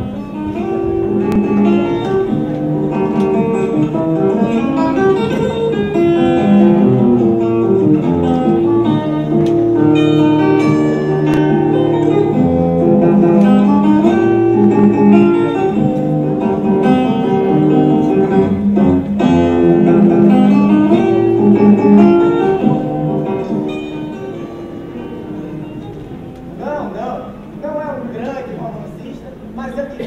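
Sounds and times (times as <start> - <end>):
plucked guitar music: 0.0 - 27.6.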